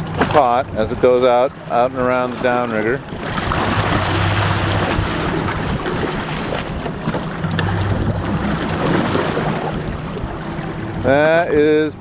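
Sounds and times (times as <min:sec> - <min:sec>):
boat engine humming: 0:00.0 - 0:12.0
water rushing past hull: 0:00.0 - 0:12.0
wind buffeting microphone: 0:00.0 - 0:12.0.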